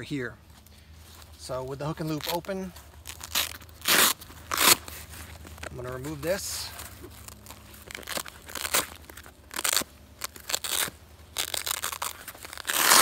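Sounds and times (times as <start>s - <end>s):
bag fabric rustling: 1.0s - 13.0s
velcro ripping apart: 1.9s - 13.0s.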